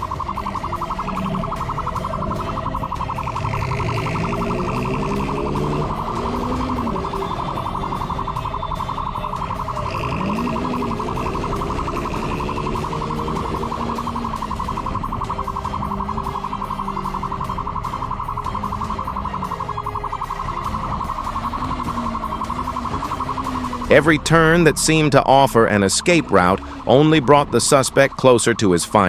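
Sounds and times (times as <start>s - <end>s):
engine revving: 0.0s - 29.0s
fast-pulsing police siren: 0.0s - 29.0s.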